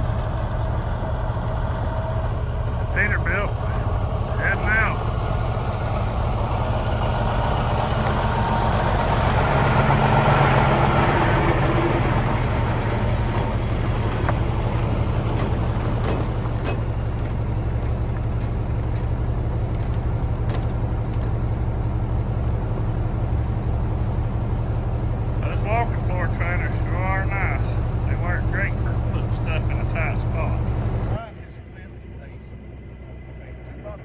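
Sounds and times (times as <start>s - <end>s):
low engine hum: 0.0s - 34.0s
truck diesel engine pulling away: 0.0s - 34.0s.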